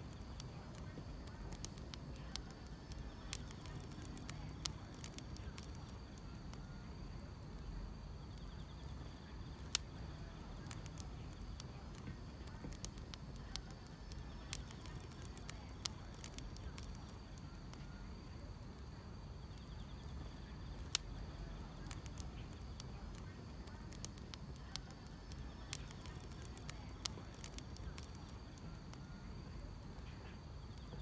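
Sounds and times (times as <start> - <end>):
firewood crackling and popping: 0.0 - 31.0
insects chirring: 0.0 - 31.0
low rumble of fire: 0.0 - 31.0.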